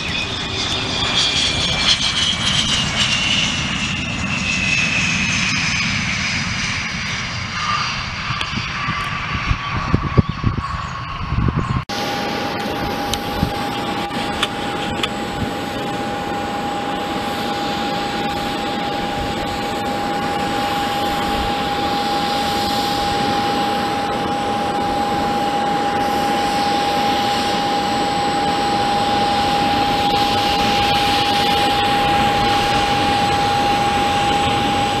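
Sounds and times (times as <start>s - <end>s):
jet engines whining: 0.0s - 35.0s.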